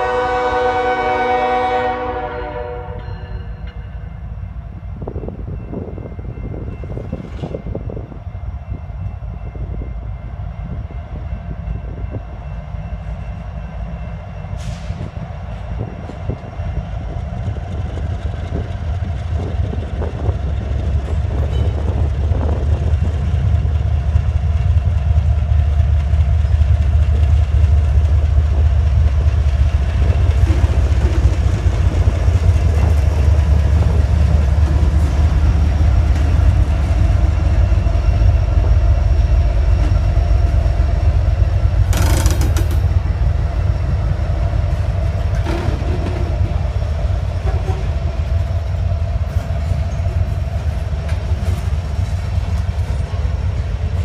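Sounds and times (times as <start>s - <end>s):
diesel locomotive engine rumble: 0.0s - 54.0s
freight train passing: 0.0s - 54.0s.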